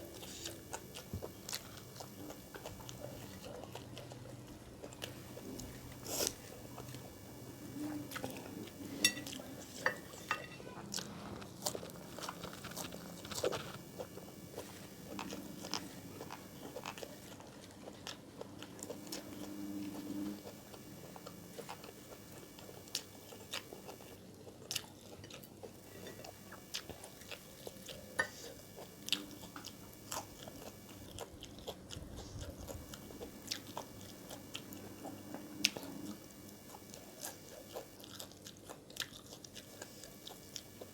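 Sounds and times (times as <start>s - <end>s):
wet chewing: 0.0s - 10.3s, 10.9s - 40.9s.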